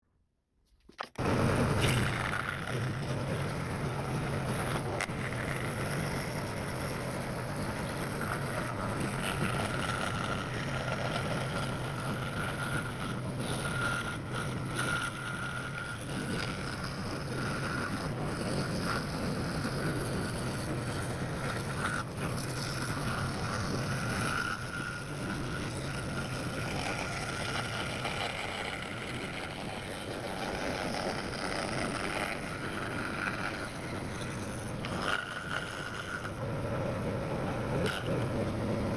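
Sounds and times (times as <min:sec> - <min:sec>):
bandsaw running: 0:01.2 - 0:36.9.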